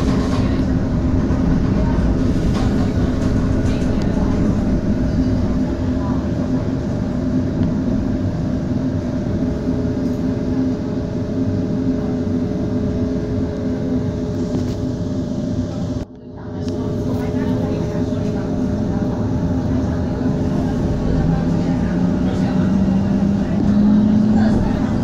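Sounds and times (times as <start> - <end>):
tram wheels rumbling on rail: 0.0 - 25.0.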